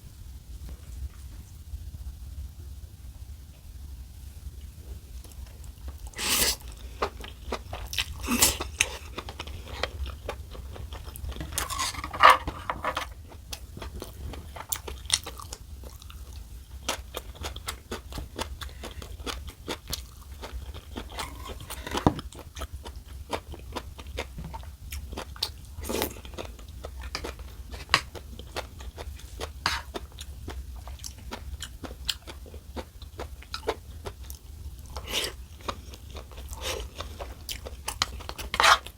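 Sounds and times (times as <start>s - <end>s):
person chewing and crunching: 6.2s - 38.9s.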